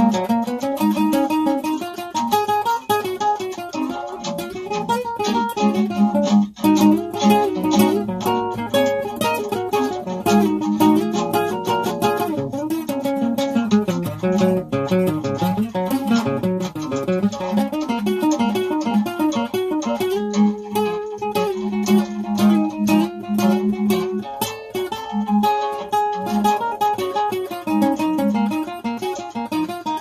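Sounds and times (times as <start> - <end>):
acoustic blues guitar: 0.0 - 30.0.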